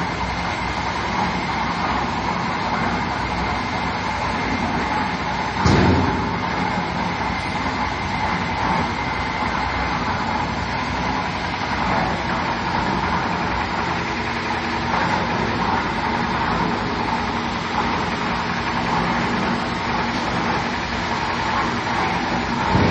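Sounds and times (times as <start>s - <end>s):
concrete mixer running: 0.0s - 22.9s.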